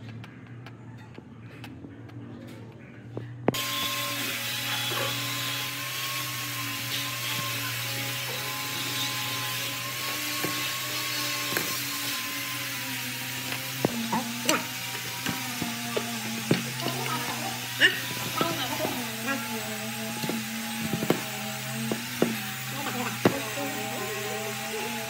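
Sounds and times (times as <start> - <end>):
power tool motor whirring: 3.5 - 25.0.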